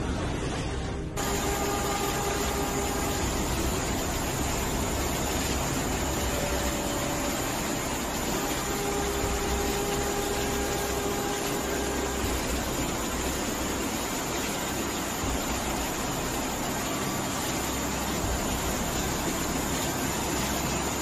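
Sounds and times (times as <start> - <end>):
floodwater rushing down street: 1.1 - 21.0
cars driving through water: 1.2 - 21.0.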